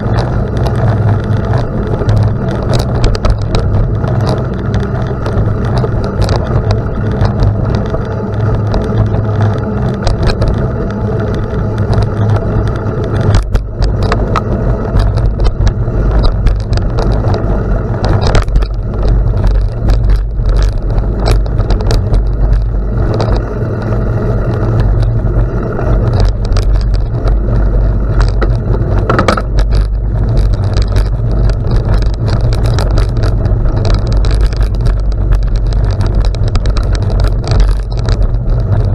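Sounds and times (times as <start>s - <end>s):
stones clicking and rattling: 0.0s - 38.9s
tyres crunching over gravel: 0.0s - 38.9s
wind rumble on microphone: 0.0s - 38.9s.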